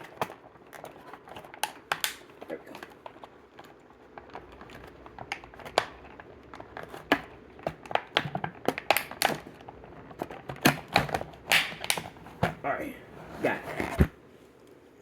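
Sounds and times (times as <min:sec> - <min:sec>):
sharp plastic clicks: 0:00.0 - 0:12.2.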